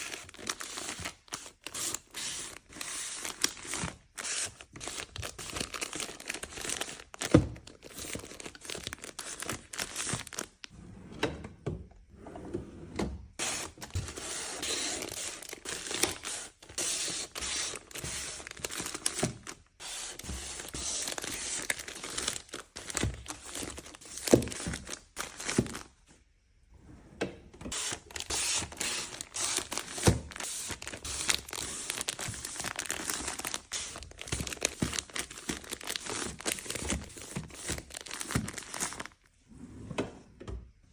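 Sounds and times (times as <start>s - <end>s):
packaging crinkling: 0.0s - 10.7s, 13.4s - 25.9s, 27.7s - 39.3s.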